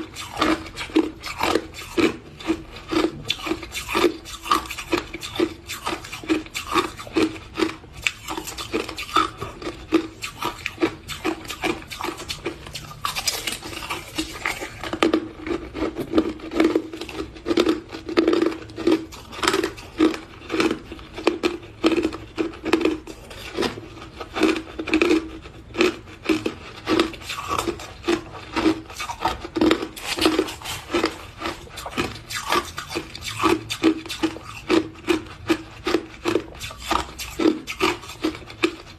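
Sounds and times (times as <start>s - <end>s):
crushed ice being chewed: 0.0s - 38.9s.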